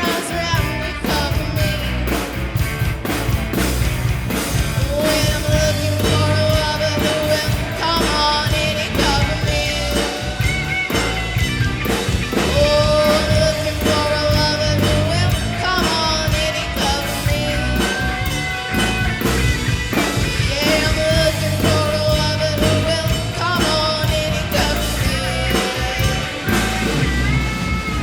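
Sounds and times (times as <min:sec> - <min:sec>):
rock band playing live: 0:00.0 - 0:28.0
bending electric guitar lead note: 0:03.9 - 0:28.0.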